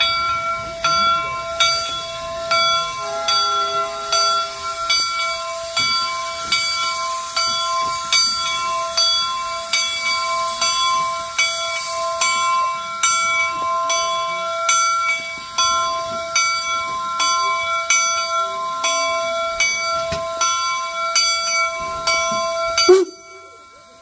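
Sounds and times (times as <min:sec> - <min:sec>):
steam locomotive bell ringing: 0:00.0 - 0:24.0.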